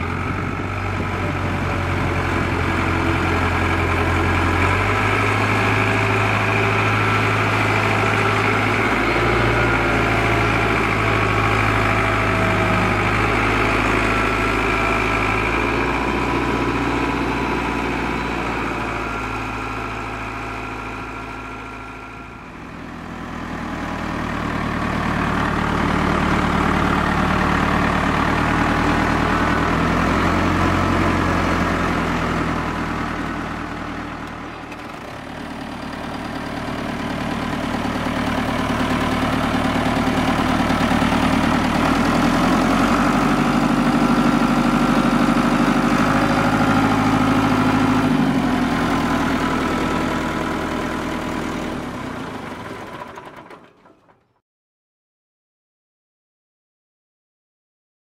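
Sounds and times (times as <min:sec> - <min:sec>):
tractor diesel engine running: 0:00.0 - 0:54.4.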